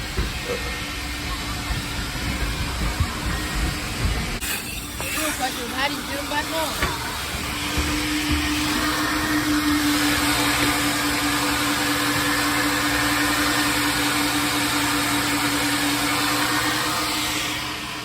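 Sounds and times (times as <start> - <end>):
suction air rushing: 0.0 - 18.0
vacuum motor whine: 0.0 - 18.0.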